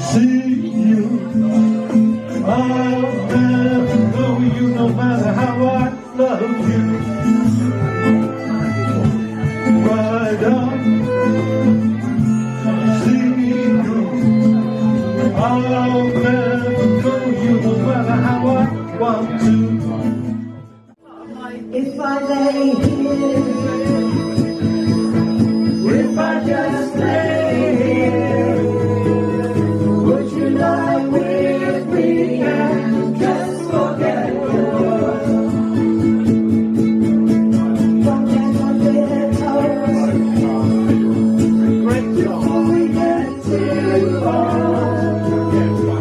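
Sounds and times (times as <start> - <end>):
fiddle melody: 0.0 - 46.0
guitar: 0.0 - 46.0.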